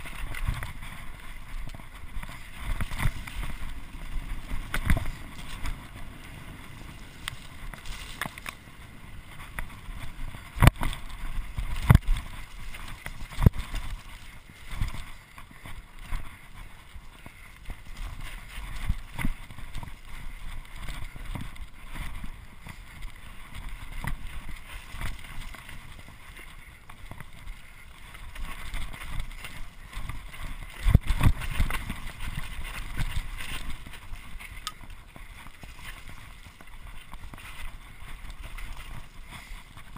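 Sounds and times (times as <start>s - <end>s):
bike rattling: 0.0s - 39.9s
wind rushing on microphone: 0.0s - 39.9s.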